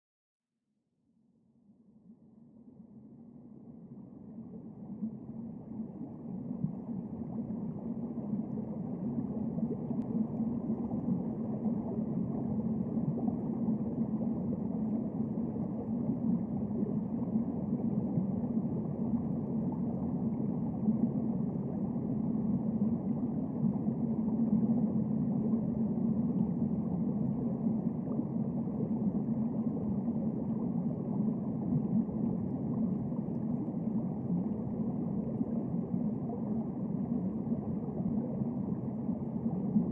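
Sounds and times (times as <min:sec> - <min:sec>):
muffled underwater drone: 0:01.0 - 0:39.9.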